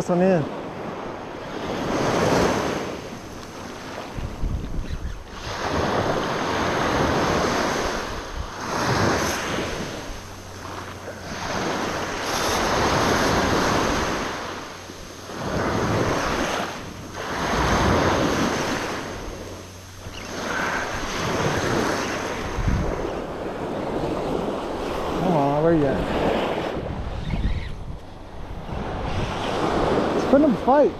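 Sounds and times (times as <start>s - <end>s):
wind buffeting microphone: 0.6s - 30.9s.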